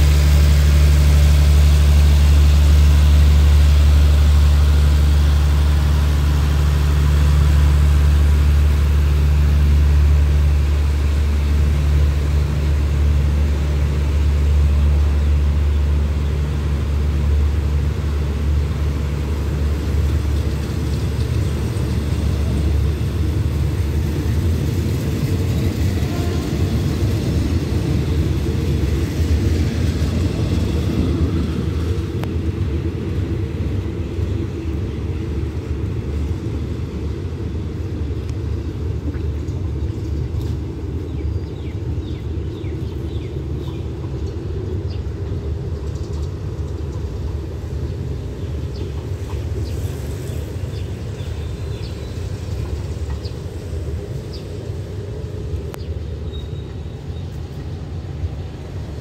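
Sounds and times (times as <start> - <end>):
passenger train rumbling past: 0.0 - 59.0.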